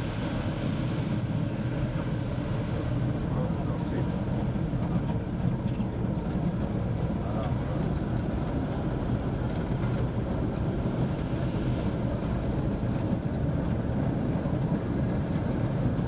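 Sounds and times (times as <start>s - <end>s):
tank engines and tracks rumbling: 0.0s - 16.0s.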